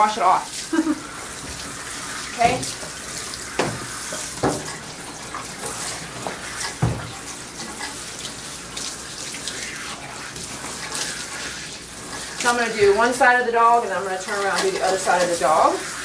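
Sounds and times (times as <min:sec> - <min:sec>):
water splashing into tub: 0:00.0 - 0:16.0.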